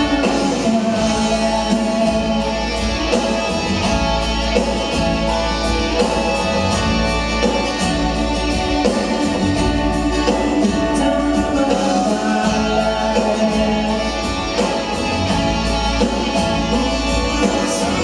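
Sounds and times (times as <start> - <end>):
drum beat: 0.0 - 18.0
electric guitars: 0.0 - 18.0
rock band playing live: 0.0 - 18.0.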